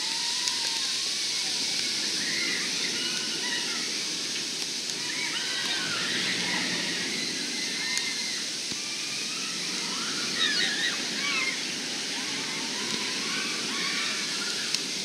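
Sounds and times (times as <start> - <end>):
riders screaming: 0.0 - 15.0
roller coaster rushing on track: 0.1 - 15.0.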